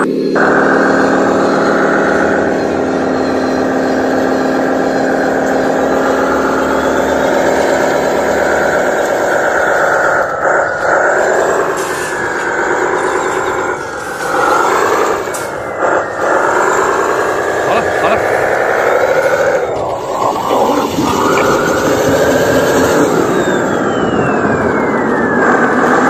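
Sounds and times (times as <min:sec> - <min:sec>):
model truck motor droning: 0:00.0 - 0:26.0.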